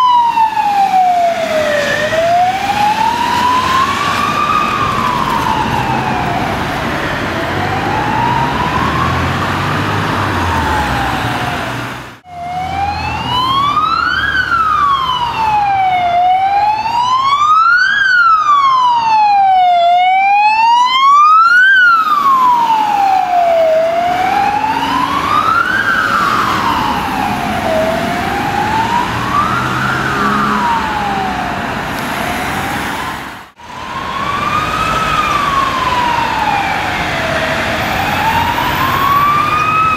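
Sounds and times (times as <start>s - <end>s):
wailing emergency sirens: 0.0s - 39.9s.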